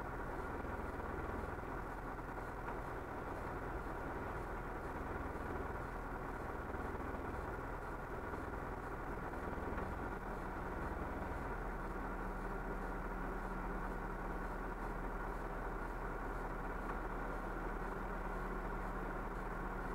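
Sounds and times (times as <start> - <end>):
fire truck engine idling: 0.0 - 19.9.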